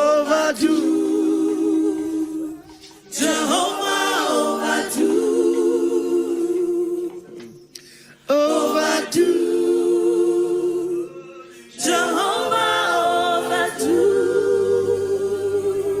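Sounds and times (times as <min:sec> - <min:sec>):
group singing in harmony: 0:00.0 - 0:16.0.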